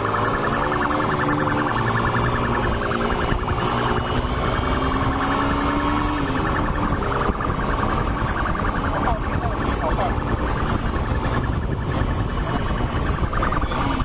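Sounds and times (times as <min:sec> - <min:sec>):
dense background noise: 0:00.0 - 0:14.0
police siren warbling: 0:00.0 - 0:14.0.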